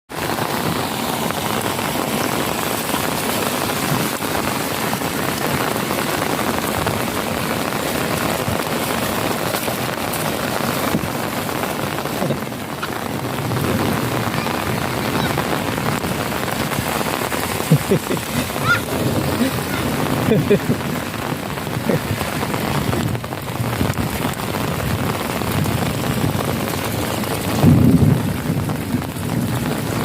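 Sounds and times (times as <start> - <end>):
rain on surfaces: 0.1 - 30.0.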